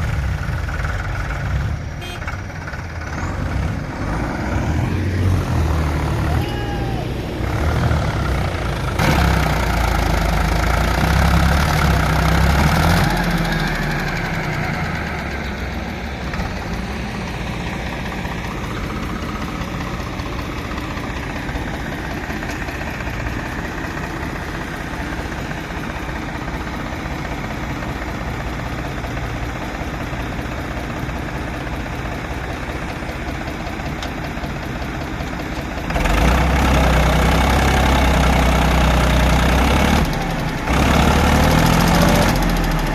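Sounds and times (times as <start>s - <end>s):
backhoe diesel engine running: 0.0s - 42.9s.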